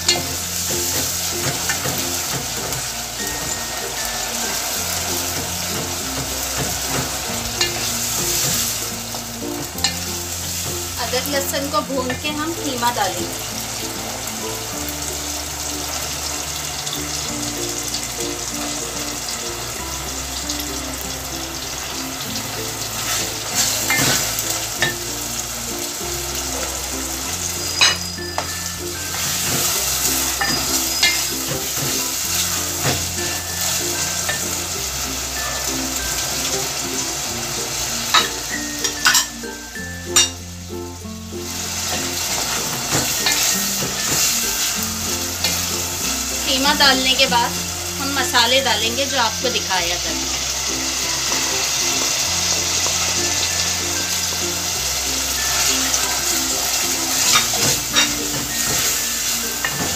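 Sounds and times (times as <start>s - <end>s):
meat sizzling in hot oil: 0.0s - 59.9s.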